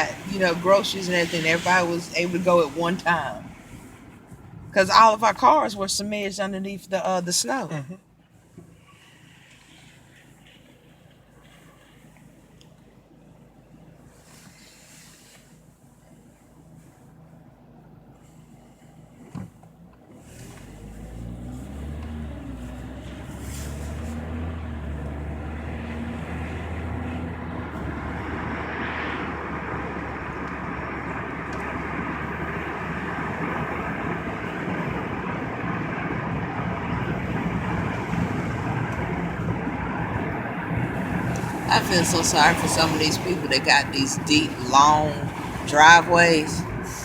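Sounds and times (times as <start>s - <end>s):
car engine hum: 0.0s - 47.0s
tyre road noise: 0.0s - 47.0s.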